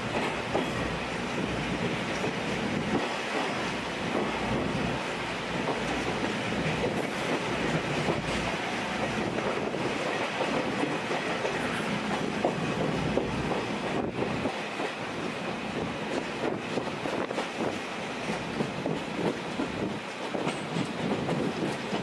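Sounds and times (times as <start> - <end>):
clickety-clack over rail joints: 0.0 - 22.0
train wheels rumbling on rail: 0.0 - 22.0.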